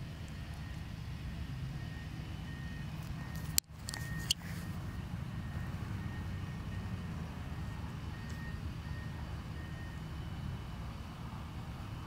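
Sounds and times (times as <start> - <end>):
low outdoor rumble: 0.0 - 12.0
faint high-pitched beeps: 0.2 - 10.6.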